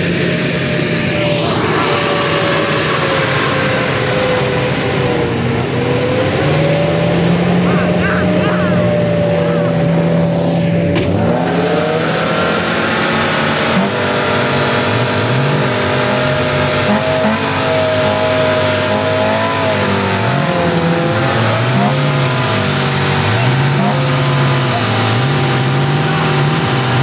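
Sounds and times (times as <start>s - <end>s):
off-road car engine revving: 0.0s - 27.0s.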